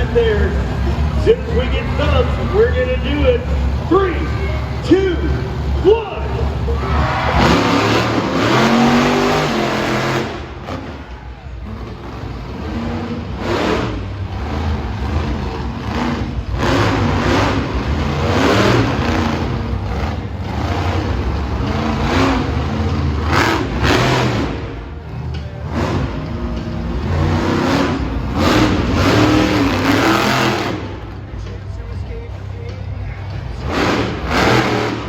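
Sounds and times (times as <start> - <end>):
monster truck engine revving: 0.0 - 35.0.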